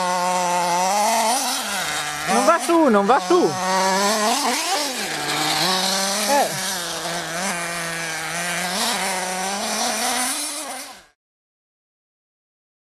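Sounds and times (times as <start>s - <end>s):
small rc car engine buzzing: 0.0s - 11.2s.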